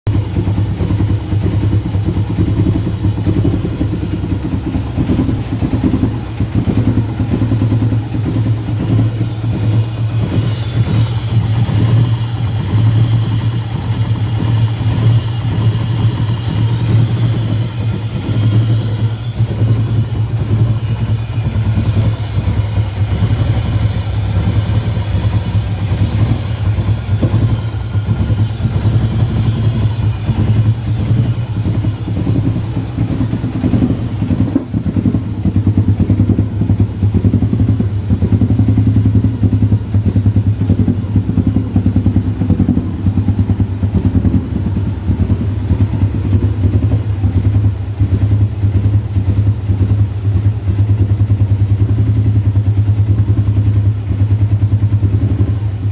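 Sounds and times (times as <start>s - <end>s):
car engine running steadily: 0.0s - 55.9s.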